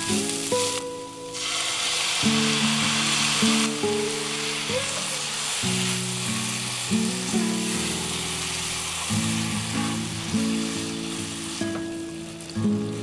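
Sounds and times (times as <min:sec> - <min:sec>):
background music of held notes: 0:00.0 - 0:13.0
meat sizzling in a pan: 0:00.0 - 0:13.0.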